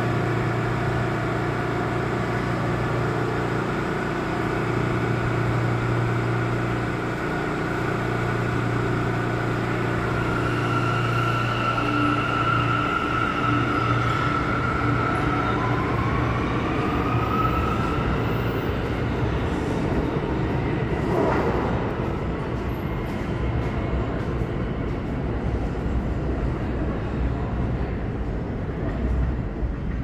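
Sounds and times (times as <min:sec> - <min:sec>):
subway train propulsion whine: 0:00.0 - 0:30.0
train wheels rumbling on rail: 0:00.0 - 0:30.0.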